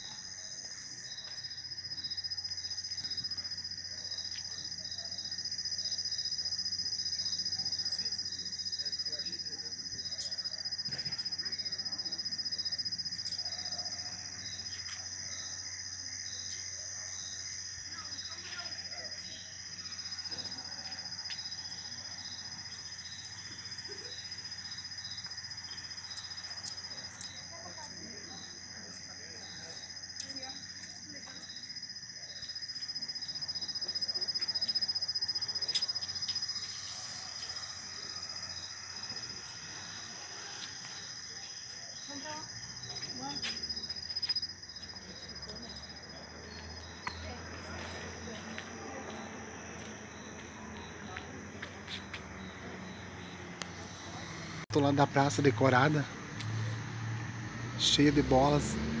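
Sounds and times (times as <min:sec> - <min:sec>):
crickets chirping: 0:00.0 - 0:59.0
night insects trilling: 0:00.0 - 0:59.0.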